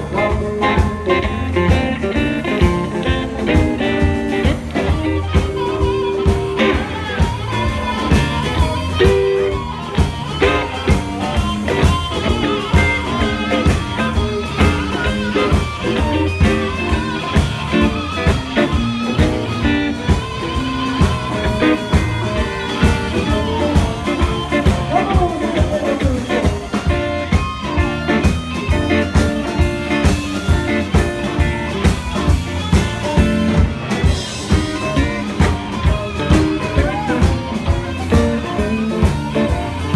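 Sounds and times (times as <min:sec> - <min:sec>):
blues band playing: 0:00.0 - 0:39.9
guitar: 0:00.0 - 0:39.9.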